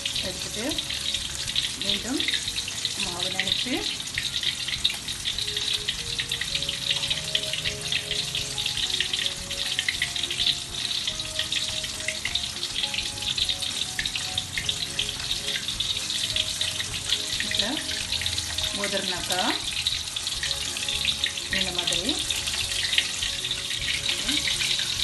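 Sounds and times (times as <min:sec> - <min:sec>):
hot oil sizzling and crackling: 0:00.0 - 0:25.0
soft melody: 0:00.0 - 0:25.0.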